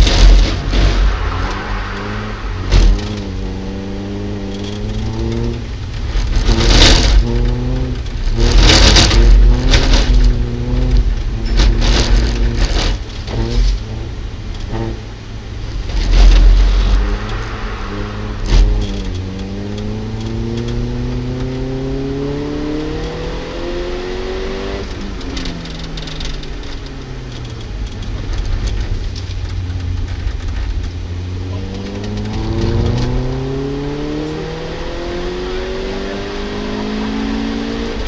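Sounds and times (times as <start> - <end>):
car engine accelerating: 0.0 - 38.0
road noise: 0.0 - 38.0.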